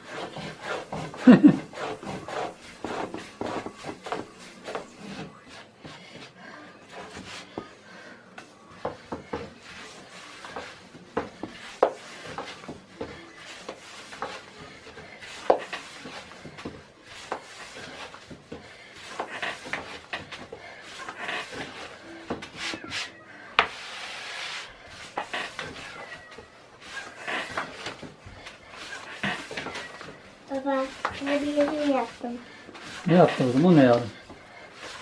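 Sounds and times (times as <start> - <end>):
rolling pin rolling dough: 0.0 - 35.0.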